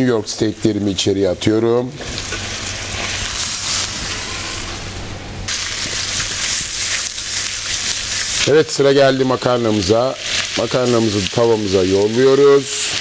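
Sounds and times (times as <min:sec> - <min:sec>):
food sizzling in a wok: 0:02.0 - 0:13.0.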